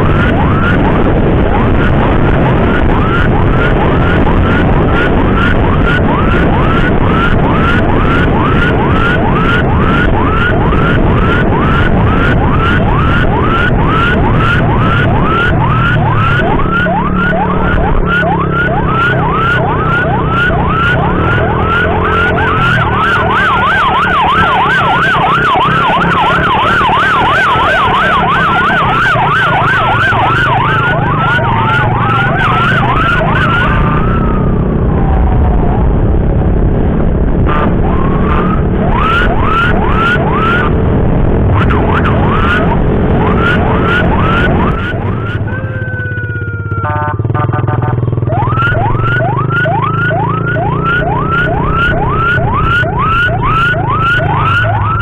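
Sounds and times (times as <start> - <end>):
electronic emergency siren: 0.0 - 55.0
road and engine noise: 0.0 - 55.0.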